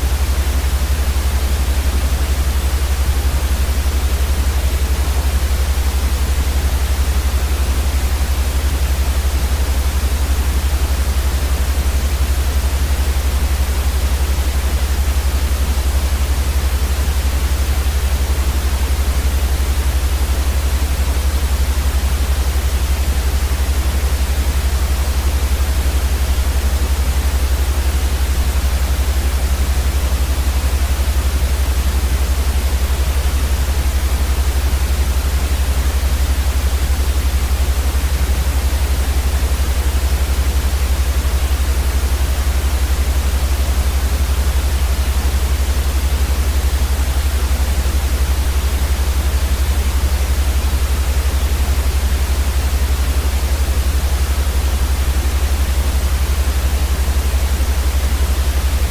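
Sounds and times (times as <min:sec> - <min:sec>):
steady white noise: 0:00.0 - 0:58.9.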